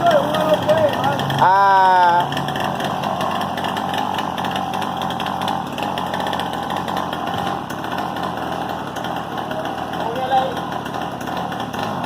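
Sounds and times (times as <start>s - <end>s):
motocross bike engine droning: 0.0s - 12.0s.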